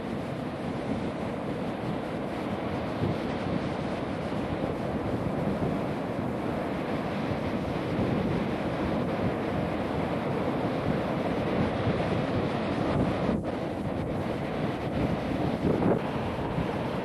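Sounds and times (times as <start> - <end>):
ocean surf breaking on beach: 0.0 - 17.0
wind buffeting microphone: 0.0 - 17.0.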